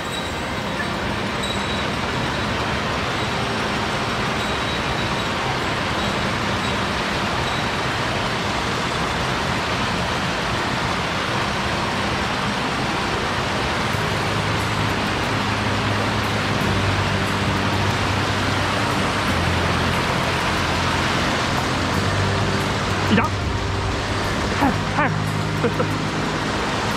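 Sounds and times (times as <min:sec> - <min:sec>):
stream water rushing: 0:00.0 - 0:26.9.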